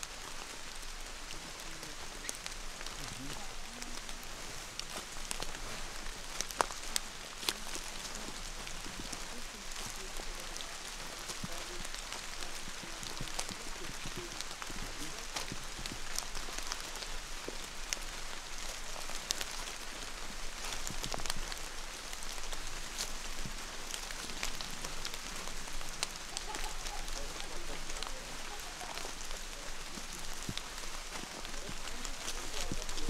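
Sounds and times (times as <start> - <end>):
light rain on leaves: 0.0 - 33.0.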